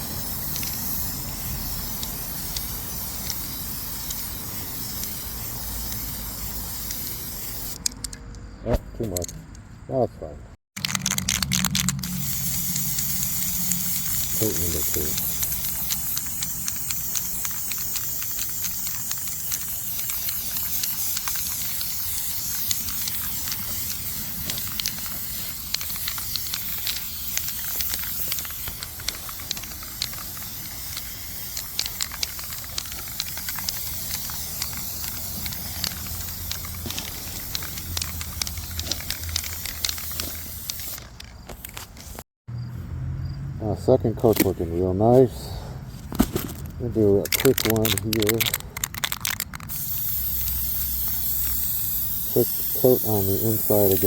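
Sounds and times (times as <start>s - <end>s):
spray paint can hissing: 0.0s - 8.1s, 10.8s - 42.2s, 47.1s - 54.0s.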